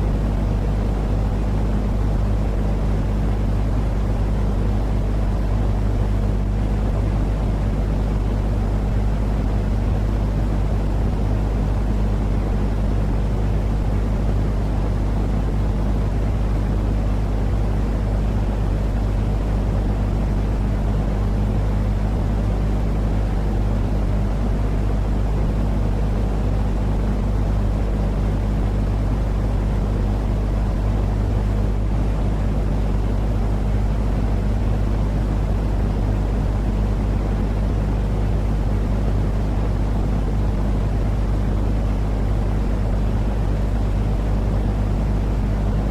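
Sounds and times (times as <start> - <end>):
deep white noise: 0.0 - 45.9.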